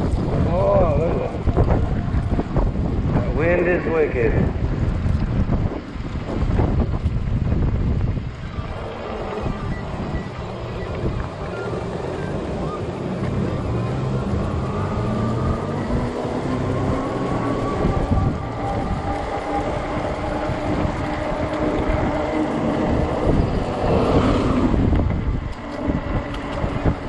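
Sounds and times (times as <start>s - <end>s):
electric bike motor whine: 0.0s - 27.0s
wind buffeting microphone: 0.0s - 27.0s.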